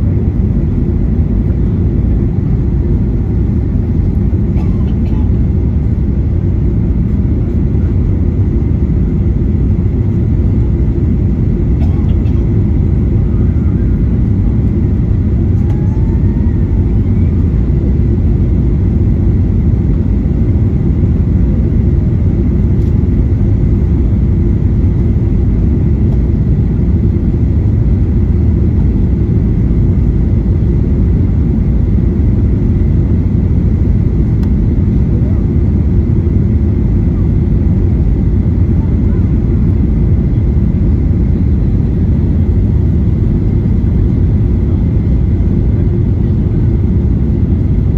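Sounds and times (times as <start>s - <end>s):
airflow over aircraft fuselage: 0.0s - 47.9s
jet engines humming: 0.0s - 47.9s.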